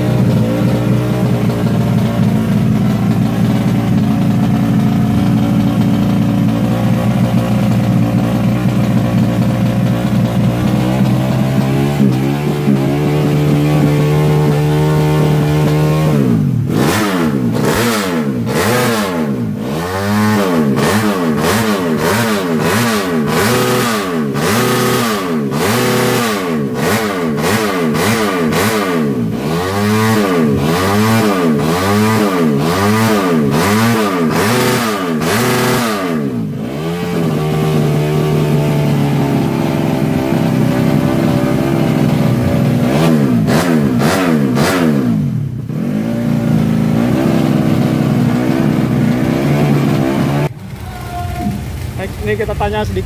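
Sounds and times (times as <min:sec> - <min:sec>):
moped engine revving: 0:00.0 - 0:53.0.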